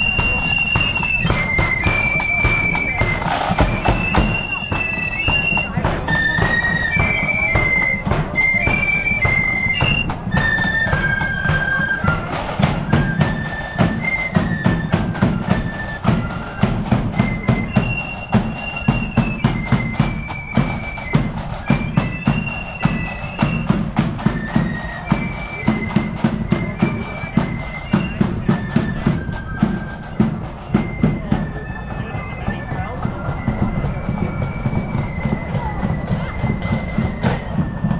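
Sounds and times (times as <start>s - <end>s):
drums beating march rhythm: 0.0s - 37.9s
flute band melody: 0.0s - 37.9s.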